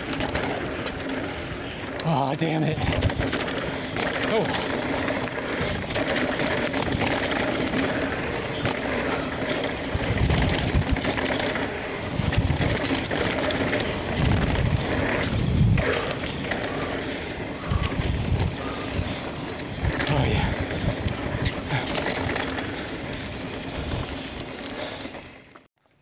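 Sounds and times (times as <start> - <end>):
bike rattling: 0.0 - 25.7
bike tyres on dirt and rock: 0.0 - 26.0
wind buffeting microphone: 2.6 - 24.4.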